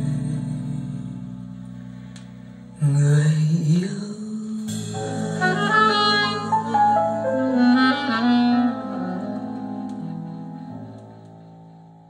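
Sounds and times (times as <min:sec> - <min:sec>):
slow ballad through speakers: 0:00.0 - 0:12.0.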